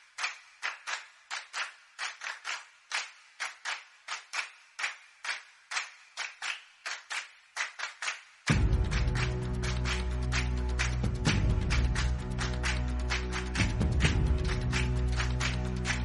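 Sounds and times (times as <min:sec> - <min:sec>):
sharp dry percussive snaps: 0:00.1 - 0:16.0.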